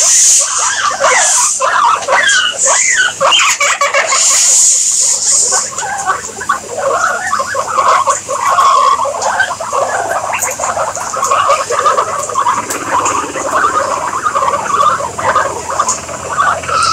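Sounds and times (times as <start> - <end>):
guinea pigs squeaking and chattering: 0.0 - 16.9.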